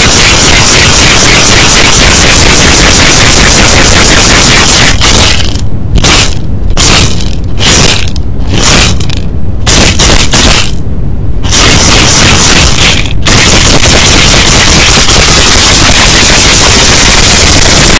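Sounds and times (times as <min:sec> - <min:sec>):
constant low rumble: 0:00.0 - 0:17.9.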